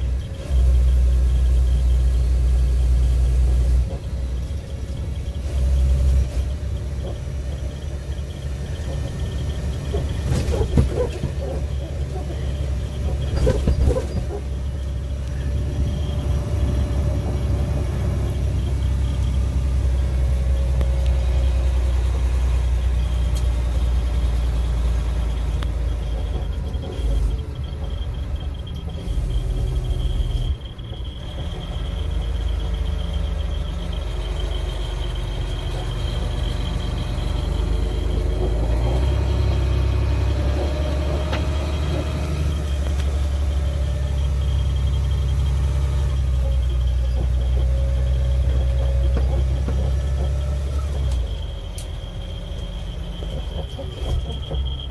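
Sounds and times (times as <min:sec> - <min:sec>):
engine and road rumble: 0:00.0 - 0:54.9.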